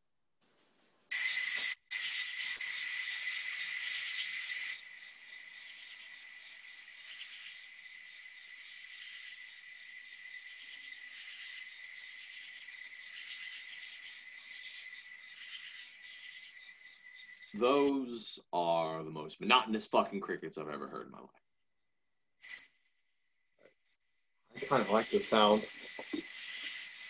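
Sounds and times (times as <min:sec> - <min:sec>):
crickets chirping: 0:01.1 - 0:18.1, 0:21.6 - 0:27.0.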